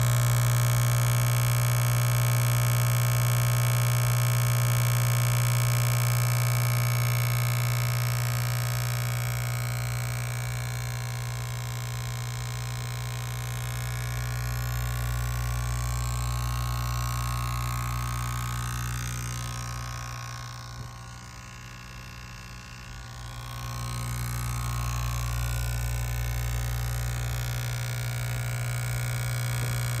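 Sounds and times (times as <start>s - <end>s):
compressor humming and whining: 0.0s - 30.0s.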